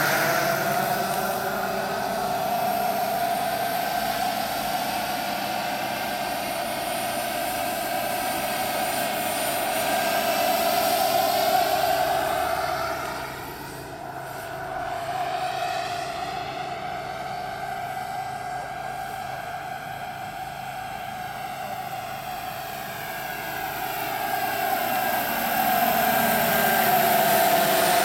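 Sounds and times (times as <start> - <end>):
model helicopter turbine whine: 0.0 - 28.0.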